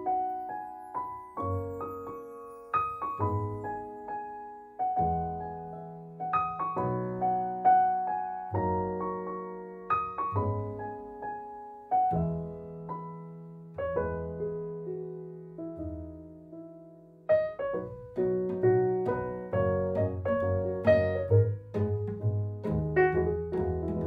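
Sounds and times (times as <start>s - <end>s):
gentle solo piano piece: 0.0s - 24.0s.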